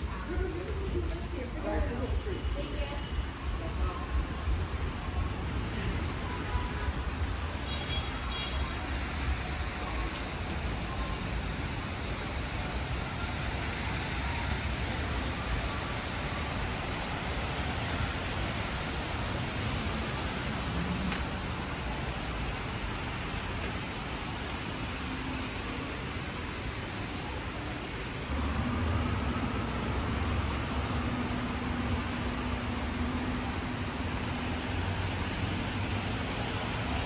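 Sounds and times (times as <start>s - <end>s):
cars driving on wet streets: 0.0s - 37.0s.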